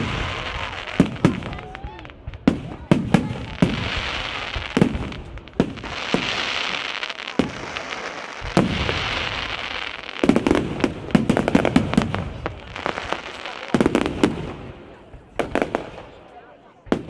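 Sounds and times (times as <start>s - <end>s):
fireworks bursting with bangs: 0.0s - 17.0s
hissing crackle of fireworks: 0.0s - 17.0s.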